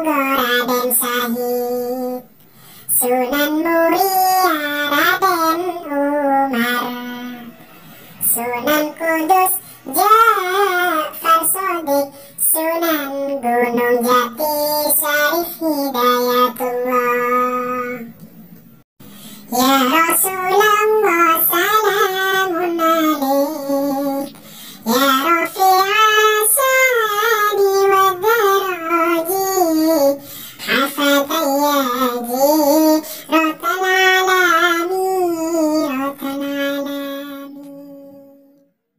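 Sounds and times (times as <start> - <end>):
child-like voice singing: 0.0 - 2.3, 2.9 - 7.5, 8.2 - 18.1, 19.5 - 38.7.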